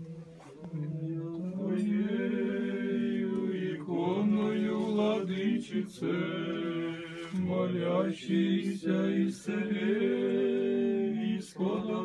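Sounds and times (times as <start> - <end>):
liturgical chant: 0.0 - 12.0.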